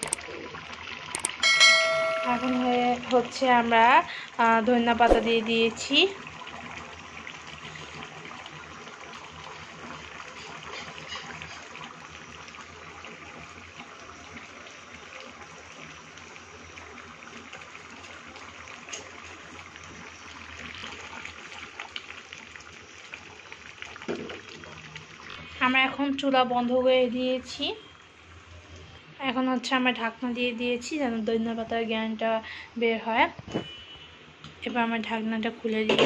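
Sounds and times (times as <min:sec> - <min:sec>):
curry bubbling and sizzling: 0:00.0 - 0:32.3.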